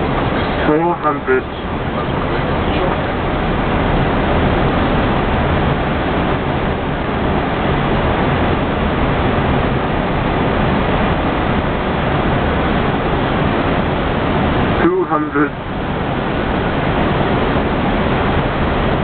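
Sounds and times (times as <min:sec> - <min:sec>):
airflow rushing past cockpit: 0:00.0 - 0:19.0
jet engines running: 0:00.0 - 0:19.0.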